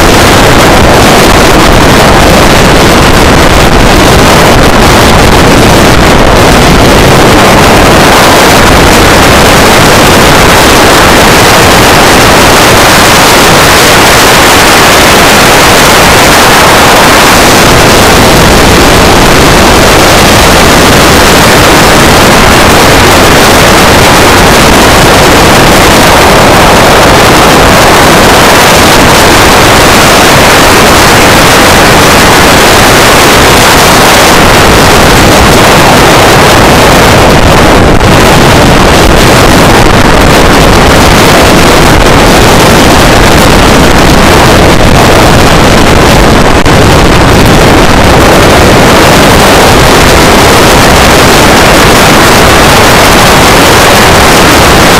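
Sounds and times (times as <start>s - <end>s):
drone motors and propellers: 0.0s - 54.9s
wind buffeting microphone: 0.0s - 54.9s.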